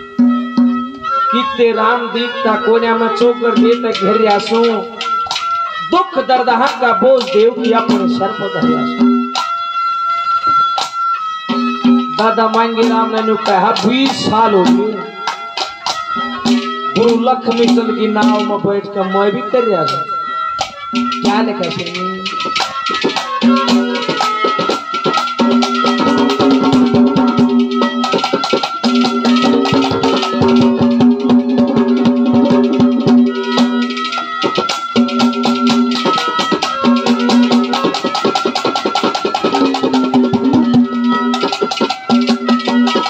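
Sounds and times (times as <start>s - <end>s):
melody in long held notes: 0.0s - 43.0s
rattling percussion: 0.0s - 43.0s.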